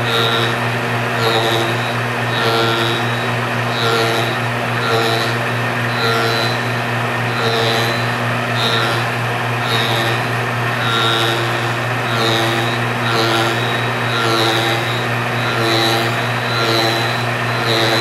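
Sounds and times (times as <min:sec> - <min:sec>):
cutter whine cutting wood: 0:00.0 - 0:18.0
low motor hum: 0:00.0 - 0:18.0.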